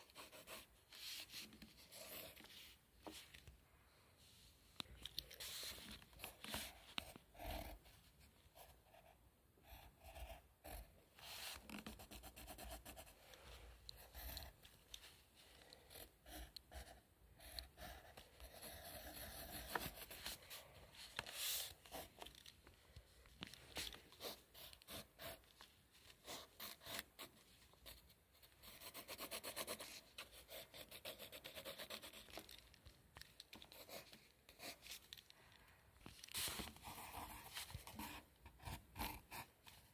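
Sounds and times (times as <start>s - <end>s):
pencil scratching on paper: 0.0s - 3.2s, 5.3s - 22.4s, 23.7s - 32.6s, 33.6s - 35.0s, 36.3s - 39.9s.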